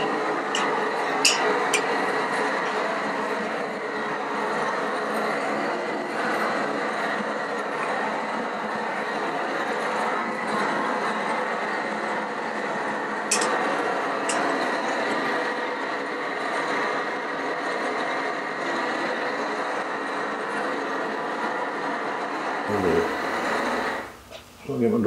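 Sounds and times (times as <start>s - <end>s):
gas torch hissing: 0.0s - 25.0s.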